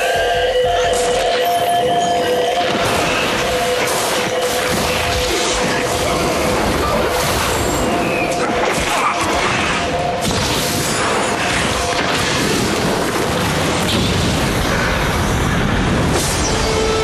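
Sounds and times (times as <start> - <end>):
battle crashing and clashing: 0.9 - 17.0.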